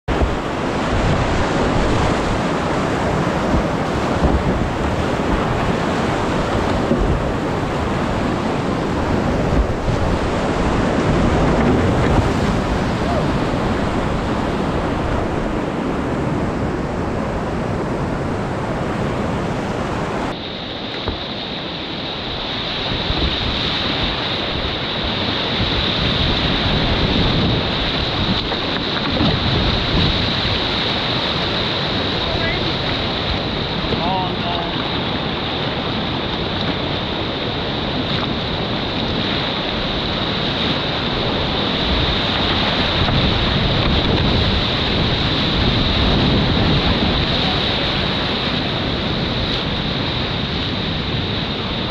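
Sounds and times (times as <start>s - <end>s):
rushing river rapids: 0.1s - 51.9s.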